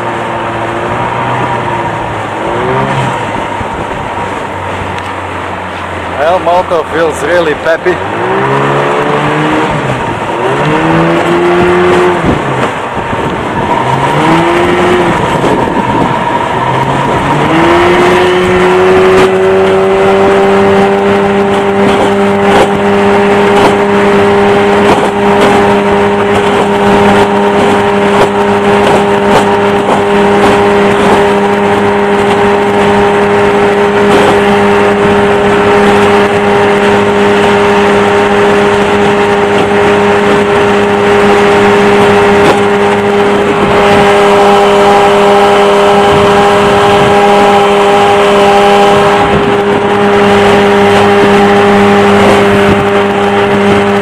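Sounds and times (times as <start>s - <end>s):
outboard motor revving: 0.0s - 54.0s.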